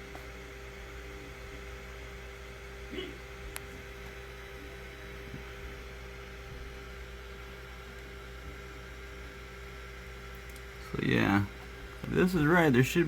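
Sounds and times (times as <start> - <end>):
constant electrical hum: 0.0 - 13.0.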